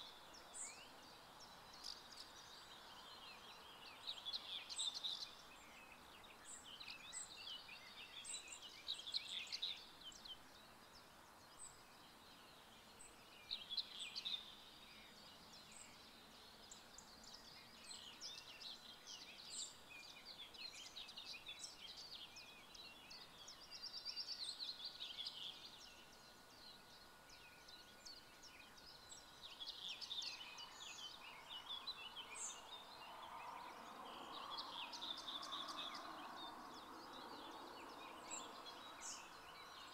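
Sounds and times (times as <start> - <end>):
soft background hiss: 0.0 - 39.9
songbirds chirping and trilling: 0.0 - 39.9.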